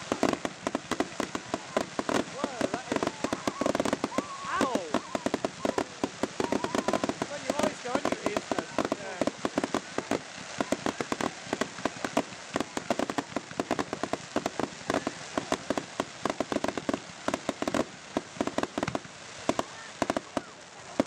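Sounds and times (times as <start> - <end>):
firework fountain crackling: 0.0 - 21.0.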